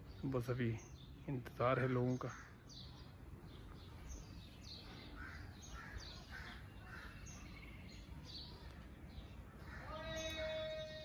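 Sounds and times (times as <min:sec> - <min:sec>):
harsh low bird calls: 0:00.0 - 0:11.0
high bird chirps: 0:00.0 - 0:11.0.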